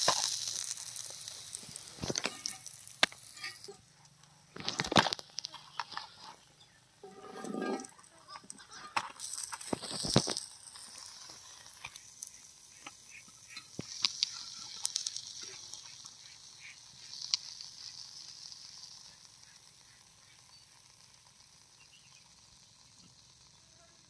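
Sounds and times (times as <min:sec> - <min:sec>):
hot oil sizzling: 0:00.0 - 0:24.0
sharp crackles: 0:00.0 - 0:24.0.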